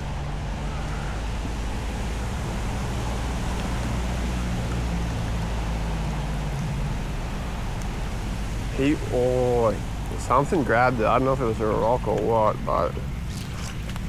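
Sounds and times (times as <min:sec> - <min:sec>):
low steady hum: 0:00.0 - 0:14.0
rain: 0:00.0 - 0:14.0
wind noise: 0:00.0 - 0:14.0.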